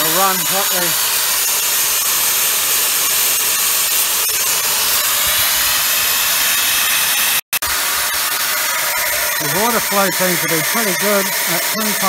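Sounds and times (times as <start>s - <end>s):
steam hissing from pipe: 0.0s - 12.0s.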